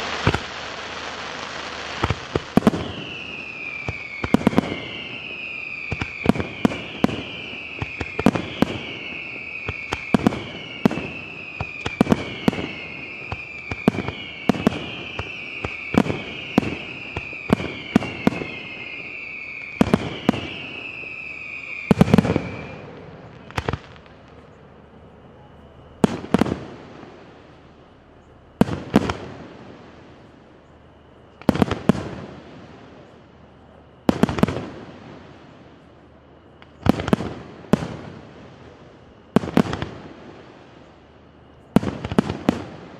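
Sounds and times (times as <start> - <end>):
firework falling whistles: 0.0 - 42.9.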